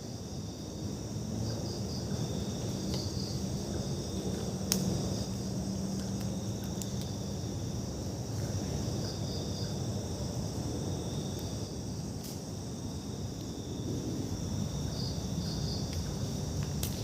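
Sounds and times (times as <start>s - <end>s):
insects trilling: 0.0s - 17.0s
low rumbling background noise: 0.0s - 17.0s.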